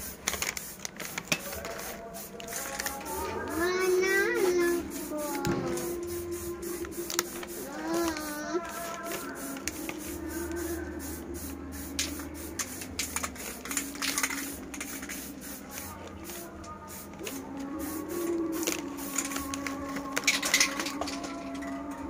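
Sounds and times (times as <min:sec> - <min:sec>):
spray paint can hissing: 0:00.0 - 0:21.7.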